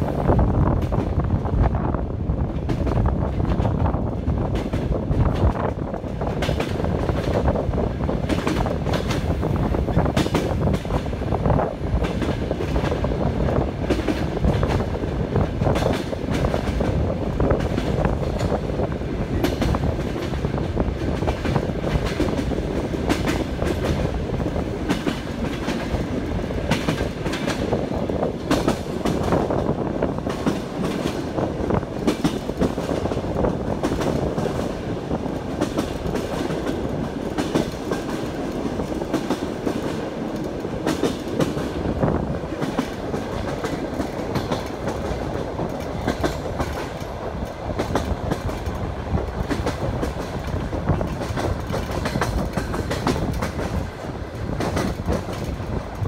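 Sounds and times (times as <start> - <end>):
train rumble inside carriage: 0.0 - 56.0.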